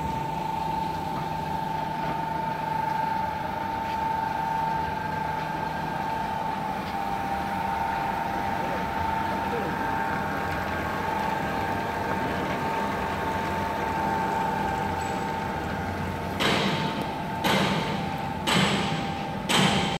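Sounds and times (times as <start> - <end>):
machine humming and whining: 0.0 - 20.0.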